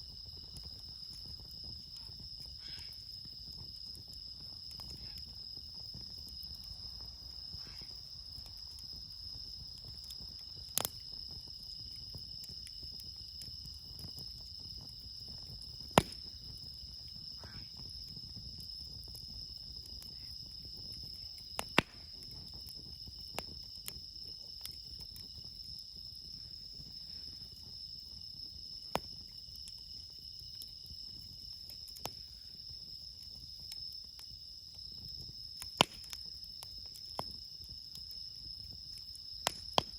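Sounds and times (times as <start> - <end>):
campfire wood popping: 0.0 - 39.9
insects chirping: 0.0 - 39.9.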